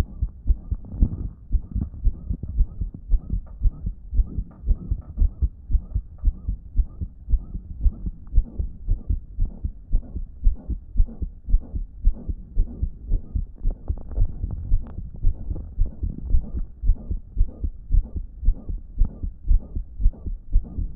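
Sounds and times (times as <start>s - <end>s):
blowing heart murmur: 0.0s - 20.9s
heart beating: 0.0s - 20.9s.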